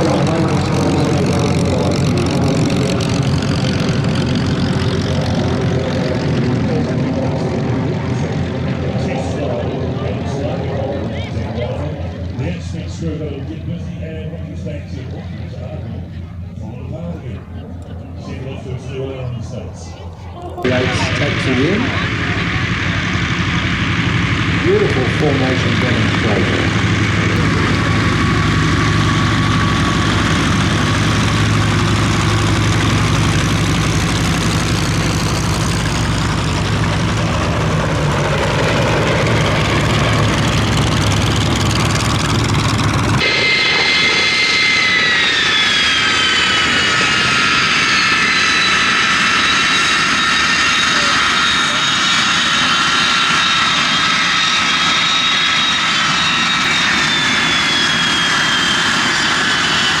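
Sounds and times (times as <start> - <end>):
jet engine whine: 0.0 - 60.0
propeller aircraft engine drone: 0.0 - 60.0.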